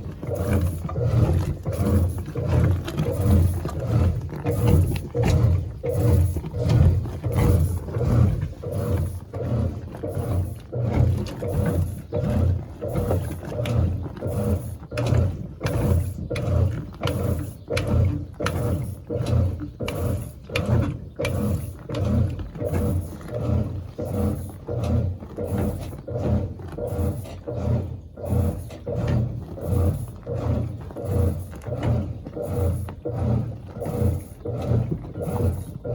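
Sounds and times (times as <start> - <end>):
washing machine groaning: 0.0 - 35.9.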